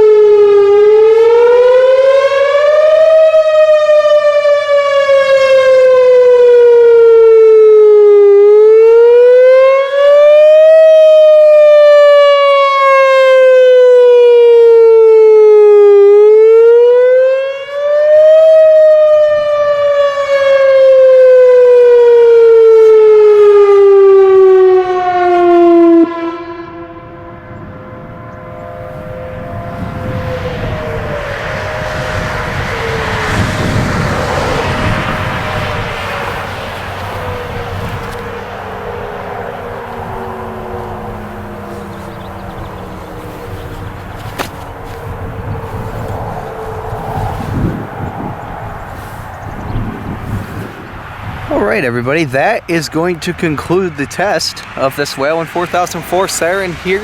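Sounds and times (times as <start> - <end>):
warning siren wailing: 0.0 - 57.0.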